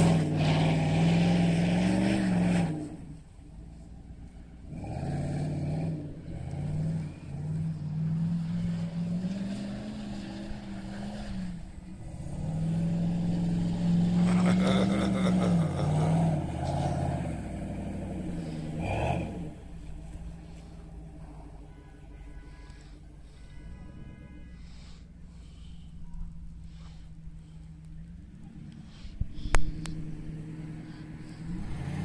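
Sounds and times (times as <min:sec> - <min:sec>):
car engine revving: 0:00.0 - 0:21.2, 0:23.8 - 0:32.0.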